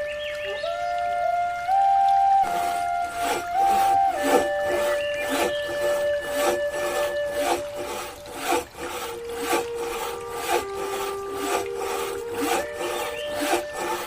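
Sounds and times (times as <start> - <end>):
background music held notes: 0.0 - 14.0
scraping stroke: 2.5 - 14.0.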